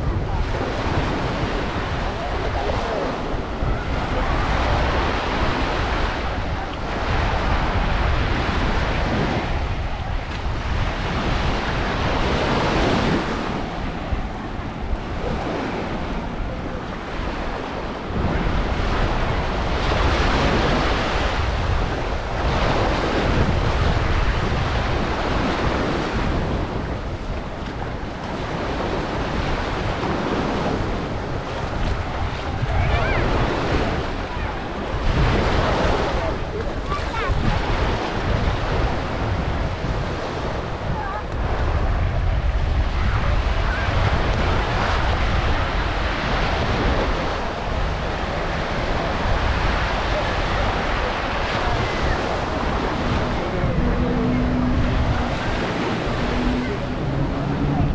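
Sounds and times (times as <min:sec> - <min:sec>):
sea waves breaking on shore: 0:00.0 - 0:57.9
wind rumbling on microphone: 0:00.0 - 0:57.9.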